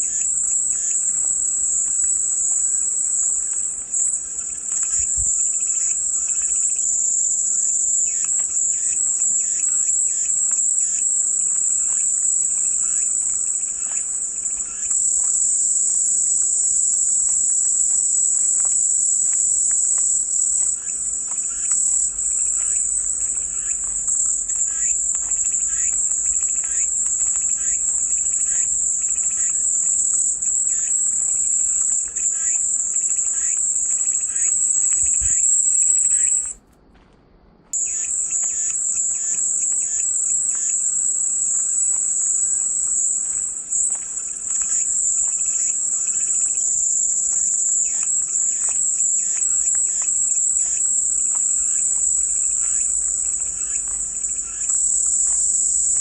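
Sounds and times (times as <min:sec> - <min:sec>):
cicadas buzzing: 0:00.0 - 0:36.6, 0:37.8 - 0:56.0.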